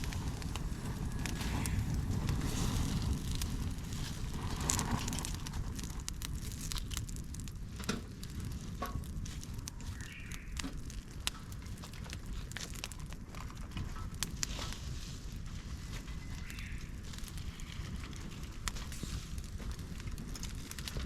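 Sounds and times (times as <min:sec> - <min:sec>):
campfire crackling and popping: 0:00.0 - 0:21.0
fire low rumble: 0:00.0 - 0:21.0.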